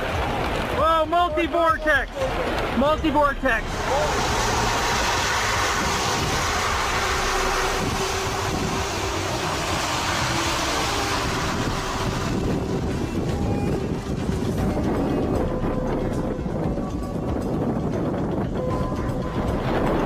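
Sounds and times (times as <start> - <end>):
vehicle road and engine noise: 0.0 - 20.0
wind noise: 0.0 - 20.0.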